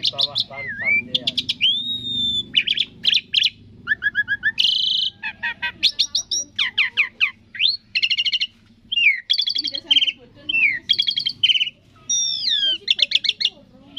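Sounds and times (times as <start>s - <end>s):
starling singing: 0.0s - 13.9s.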